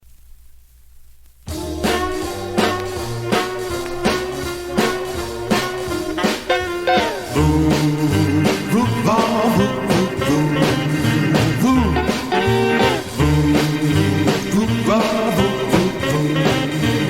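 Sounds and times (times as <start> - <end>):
rock and roll band playing: 1.5 - 17.0
voices singing: 1.5 - 17.0
walking bass line: 1.5 - 17.0.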